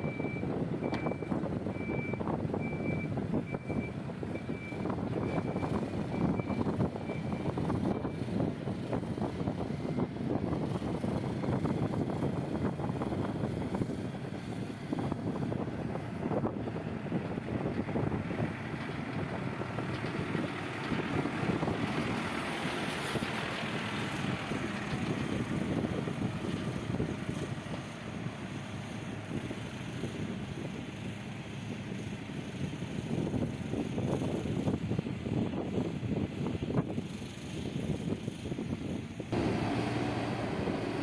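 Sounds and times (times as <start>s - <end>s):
diesel engine running: 0.0s - 34.4s, 39.3s - 41.0s
wind on microphone: 0.1s - 28.2s, 32.6s - 41.0s.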